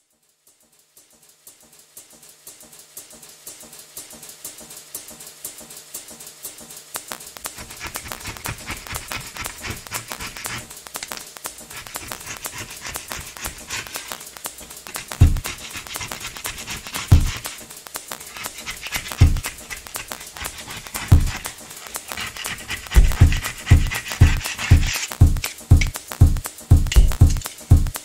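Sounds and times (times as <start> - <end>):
fast rhythmic background music: 0.4 - 28.0.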